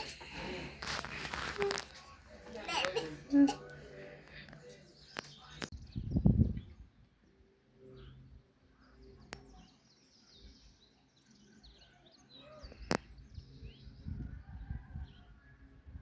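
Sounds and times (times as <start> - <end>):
small birds chirping: 0.0 - 15.3.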